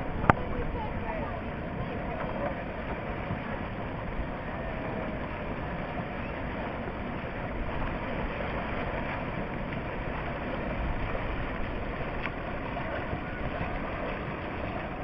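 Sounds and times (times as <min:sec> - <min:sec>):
whitewater roaring: 0:00.0 - 0:15.0.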